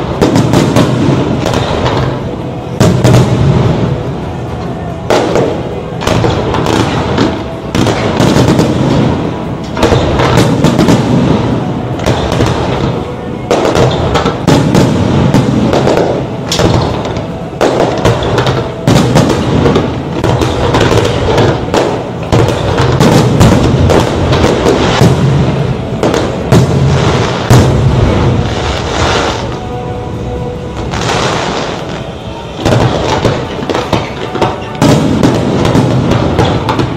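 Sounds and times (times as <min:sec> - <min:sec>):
fireworks bursting: 0:00.0 - 0:36.9
music: 0:00.0 - 0:36.9.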